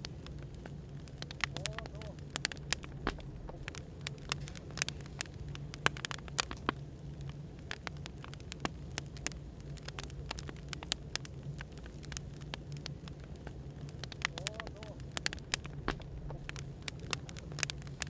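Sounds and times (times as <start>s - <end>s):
firewood crackling and popping: 0.0s - 18.0s
low background hum: 0.0s - 18.0s.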